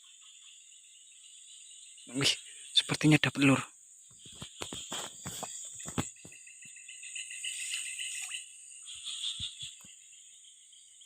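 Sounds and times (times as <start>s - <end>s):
frogs calling: 0.0s - 11.0s
high insect drone: 0.0s - 11.0s.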